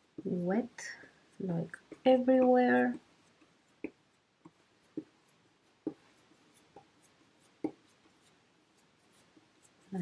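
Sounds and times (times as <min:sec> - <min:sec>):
brush stroking wet paper: 0:00.0 - 0:10.0.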